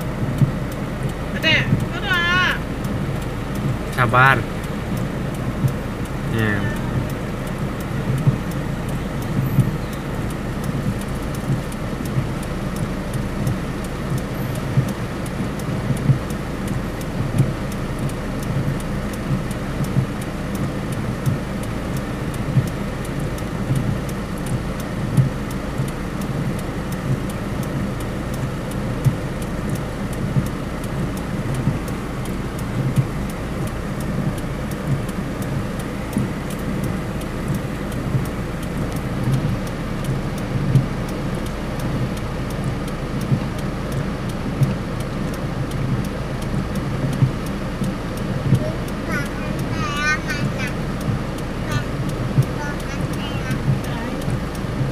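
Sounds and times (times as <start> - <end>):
car engine and tyres on wet road: 0.0 - 54.9.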